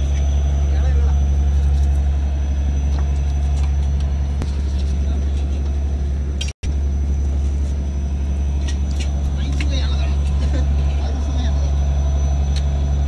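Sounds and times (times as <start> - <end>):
boat diesel engine droning: 0.0 - 13.0.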